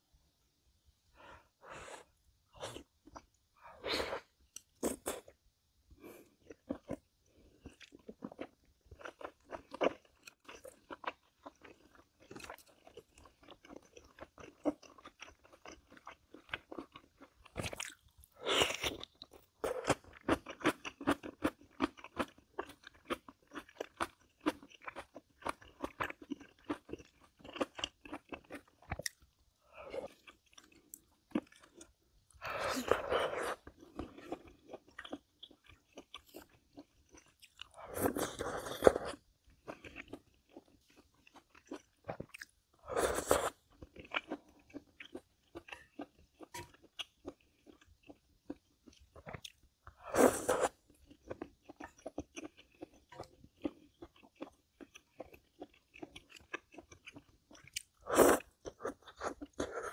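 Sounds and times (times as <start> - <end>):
person crunching food: 6.5 - 59.9.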